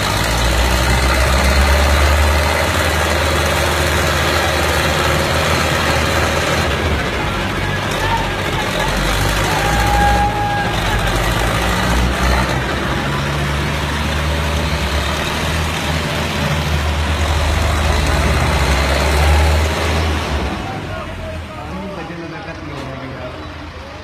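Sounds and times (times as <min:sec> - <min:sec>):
tractor diesel engine running: 0:00.0 - 0:24.0
voices of onlookers: 0:00.0 - 0:24.0.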